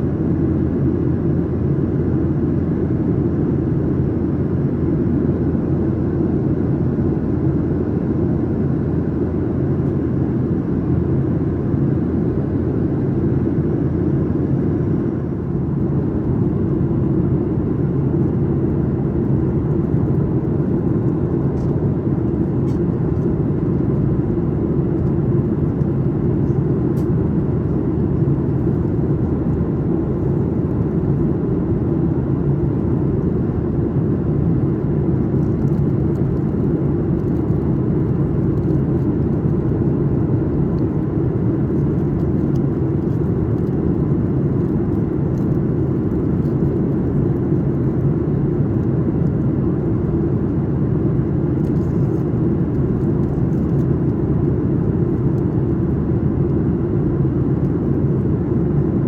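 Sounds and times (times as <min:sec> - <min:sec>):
jet engine low roar: 0:00.0 - 0:59.0.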